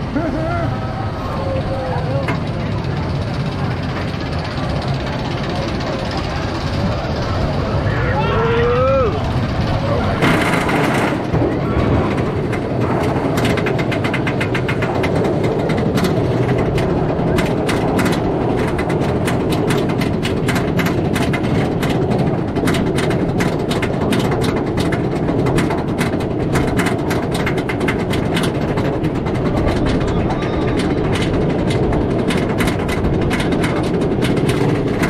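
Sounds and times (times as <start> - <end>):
anti-rollback rapid clicking: 1.4 - 8.0, 8.7 - 35.0
coaster train clatter on chain lift: 1.4 - 35.0.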